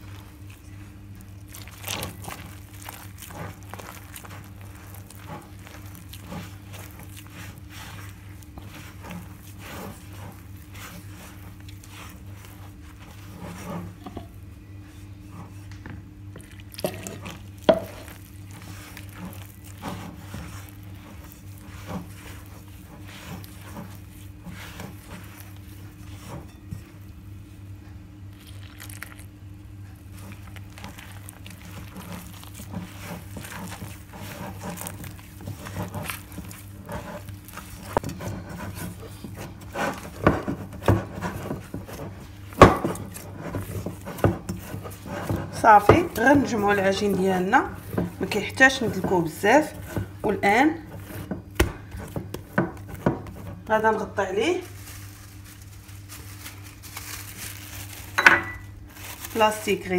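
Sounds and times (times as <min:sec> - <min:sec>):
hands squishing dough: 0:00.0 - 0:59.9
steady low hum: 0:00.0 - 0:59.9.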